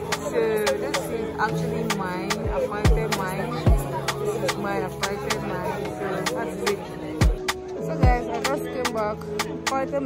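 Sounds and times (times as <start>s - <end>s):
hip-hop track with vocals: 0.0s - 10.0s.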